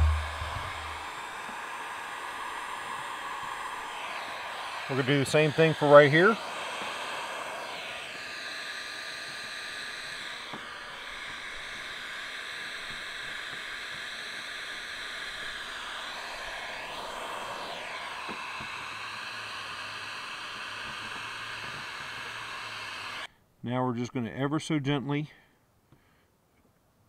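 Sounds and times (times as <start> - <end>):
heat gun blowing: 0.0 - 23.3.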